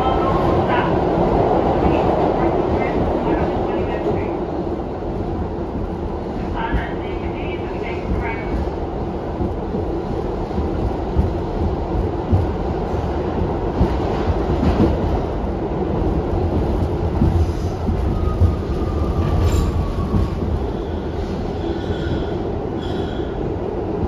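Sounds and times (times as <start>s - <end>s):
subway train wheels rumbling: 0.0s - 24.0s.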